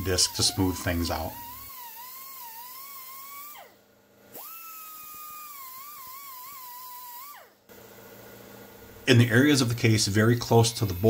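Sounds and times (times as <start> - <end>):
air die grinder whining: 0.0 - 7.6, 9.2 - 11.0.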